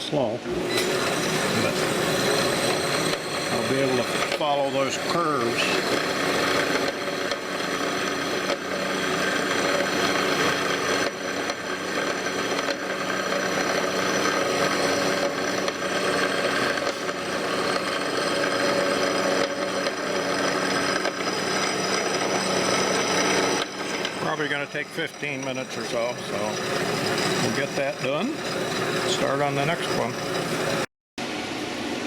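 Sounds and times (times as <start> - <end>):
saw motor hum: 0.5 - 30.9
bandsaw rasping through metal: 0.6 - 30.9.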